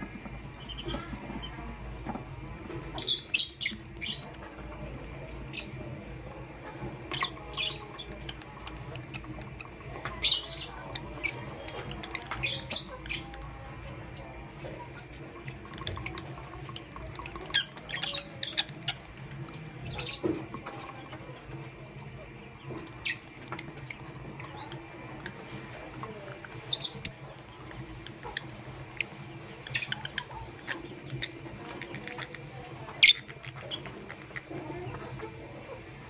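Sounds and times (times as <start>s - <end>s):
birds chirping and squeaking: 0.0s - 36.0s.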